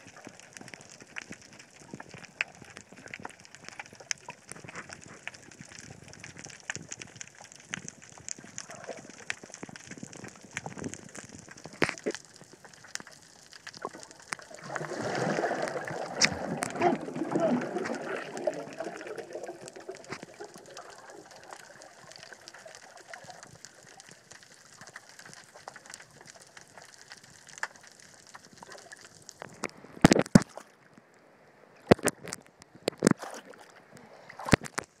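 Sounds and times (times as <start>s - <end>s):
faint crackling ticks: 0.0s - 14.6s, 15.7s - 31.2s, 34.0s - 35.0s.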